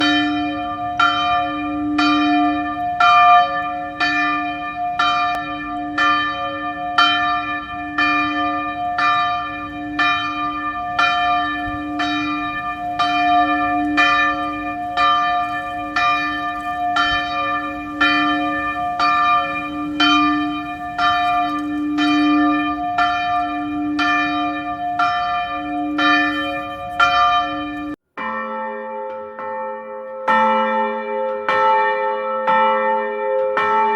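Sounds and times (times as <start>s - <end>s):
church bell tolling: 0.0s - 33.9s.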